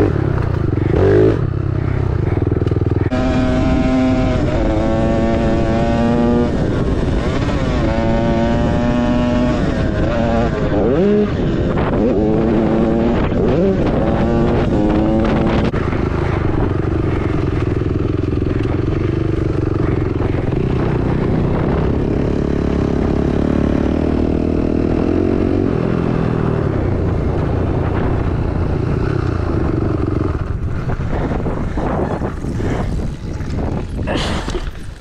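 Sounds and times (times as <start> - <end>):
dirt bike engine revving: 0.0 - 34.8.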